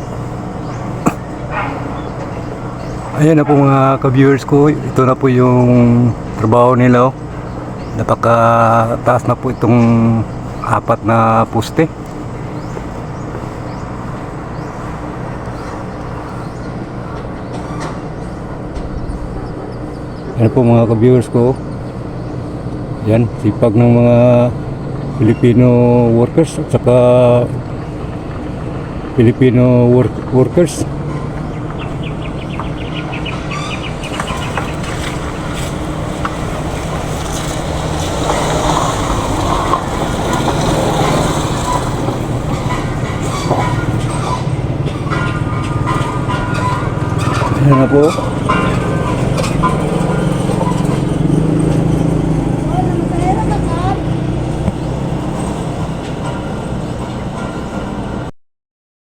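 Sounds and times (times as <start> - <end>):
heavy engine droning: 0.0 - 58.3.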